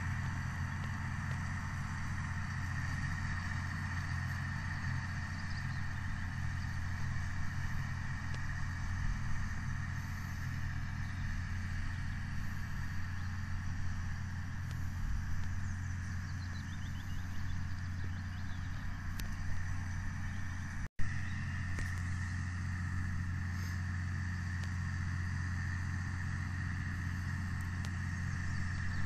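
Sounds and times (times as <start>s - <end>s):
baler whine: 0.0s - 29.0s
tractor engine hum: 0.0s - 29.0s.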